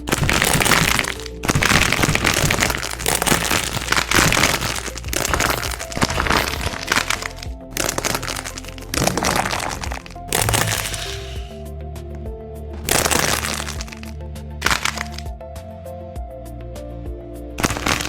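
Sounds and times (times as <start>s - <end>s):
dense crackling and crunching: 0.0s - 11.6s, 12.8s - 15.3s, 17.6s - 18.0s
soft background music: 0.0s - 18.0s.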